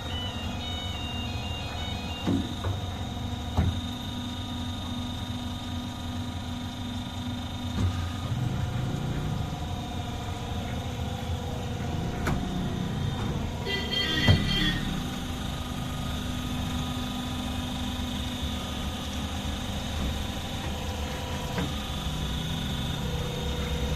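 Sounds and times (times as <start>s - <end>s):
cutting machine motor hum: 0.0s - 23.9s.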